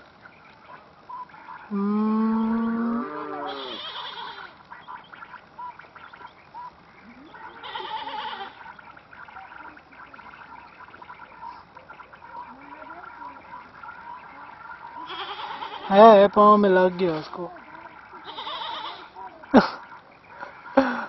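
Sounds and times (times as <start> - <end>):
faint high-pitched calls: 0.2 - 16.1, 17.1 - 20.8
short wavering animal calls: 0.6 - 16.0, 17.1 - 19.6.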